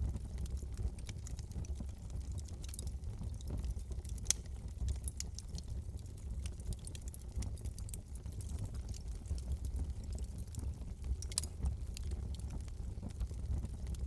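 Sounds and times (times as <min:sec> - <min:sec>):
fire popping and snapping: 0:00.0 - 0:14.0
low rumble of flames: 0:00.0 - 0:14.0.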